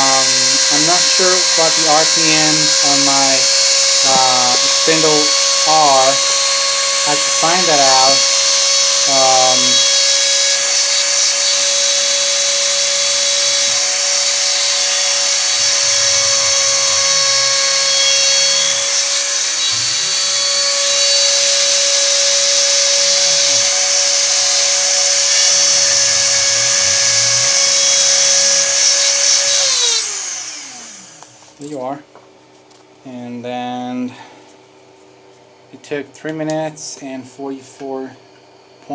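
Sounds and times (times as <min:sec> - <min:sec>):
cutting hiss: 0:00.0 - 0:31.8
router spindle whine: 0:00.0 - 0:31.8
stepper motors gliding tones: 0:00.0 - 0:31.8.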